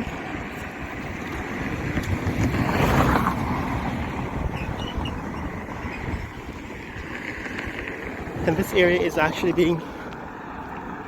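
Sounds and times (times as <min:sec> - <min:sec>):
vehicle passing on road: 0:00.0 - 0:11.0
wind buffeting microphone: 0:00.0 - 0:11.0.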